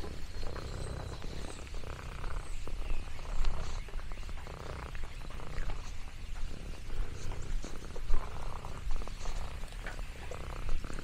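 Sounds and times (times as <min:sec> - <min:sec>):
cat purring: 0:00.0 - 0:11.0
small clicks and rustles: 0:00.0 - 0:11.0.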